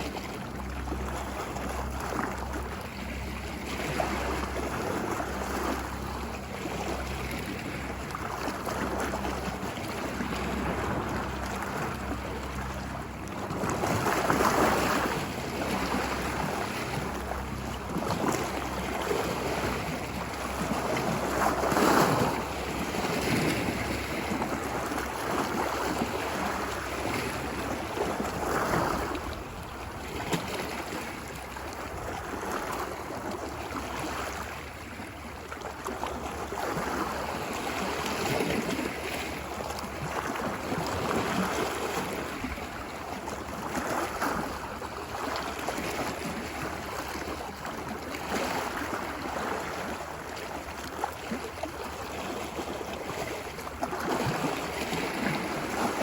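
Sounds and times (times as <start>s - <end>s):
ocean waves surf: 0.0s - 56.0s.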